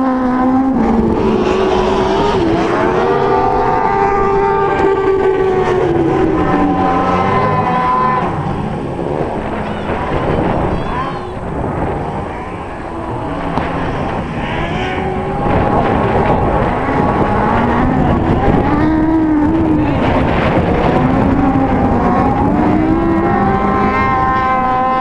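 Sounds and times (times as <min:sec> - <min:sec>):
buggy engines revving: 0:00.0 - 0:25.0.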